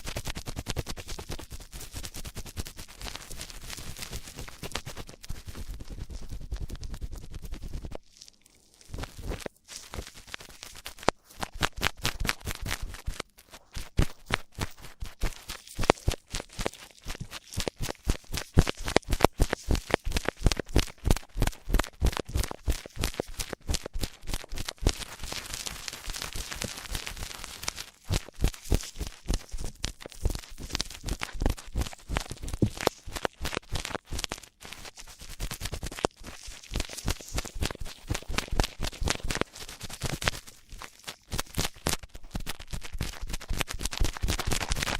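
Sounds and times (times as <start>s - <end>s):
quick scratches and crackles: 0.0s - 44.9s.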